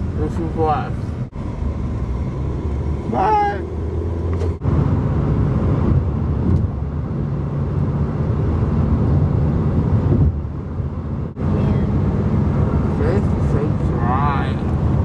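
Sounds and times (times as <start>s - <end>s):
car cabin hum and rumble: 0.0s - 15.0s.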